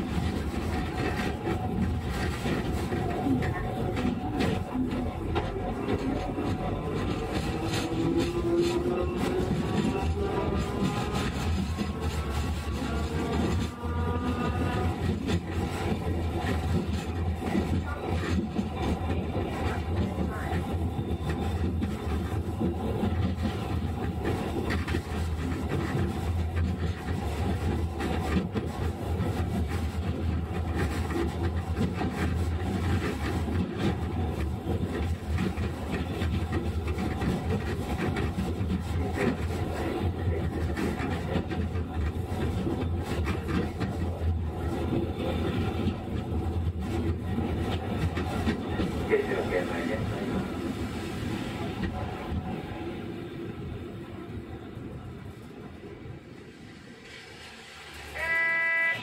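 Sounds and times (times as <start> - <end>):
tram wheels rumbling on track: 0.0 - 59.0.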